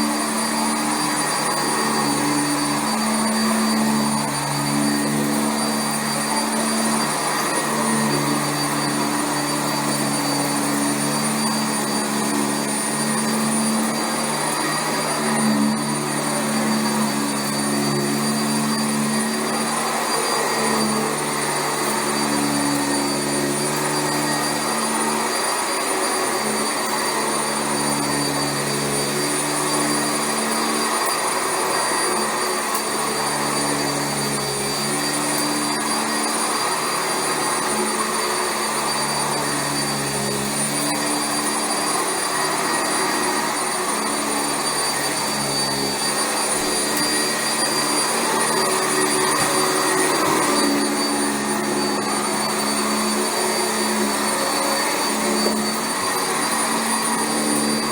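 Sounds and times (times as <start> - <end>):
upright vacuum cleaner running: 0.0 - 57.9.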